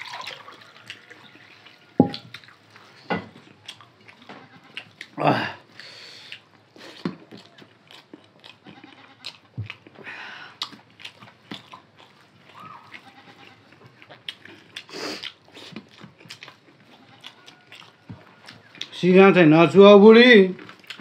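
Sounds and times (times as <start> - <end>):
people chewing: 0.1 - 19.8, 20.5 - 21.0.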